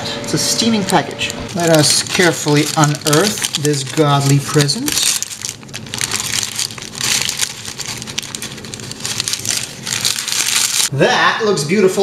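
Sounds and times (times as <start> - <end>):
baking paper crinkling: 0.7 - 10.9.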